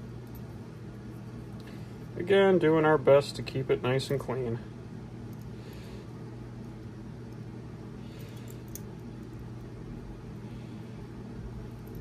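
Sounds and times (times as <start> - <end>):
low hum of room machinery: 0.0 - 12.0.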